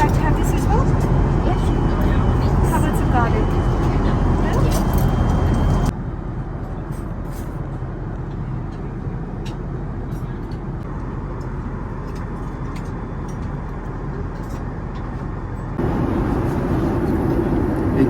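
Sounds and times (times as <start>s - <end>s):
airliner engines and airflow rushing: 0.0s - 18.0s.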